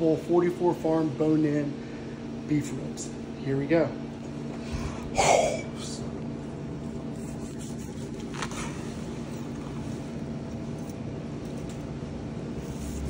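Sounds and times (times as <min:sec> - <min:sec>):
steady hum of fans: 0:00.0 - 0:13.0.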